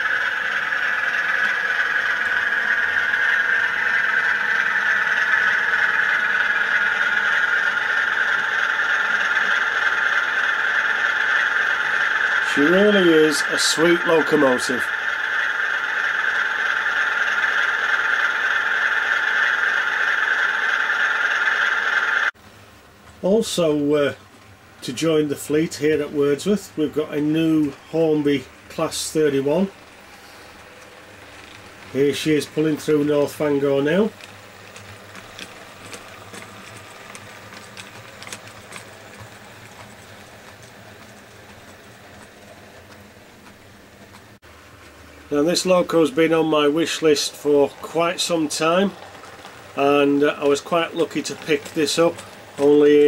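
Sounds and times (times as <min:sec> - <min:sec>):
wheels clicking over rail joints: 0:00.0 - 0:22.3, 0:23.0 - 0:53.0
model locomotive engine idling: 0:00.0 - 0:53.0.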